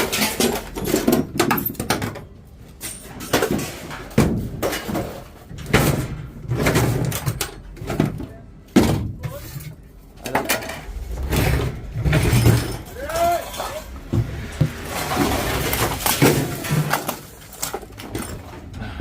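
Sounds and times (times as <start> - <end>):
scrap objects knocking and clattering: 0.0 - 19.0.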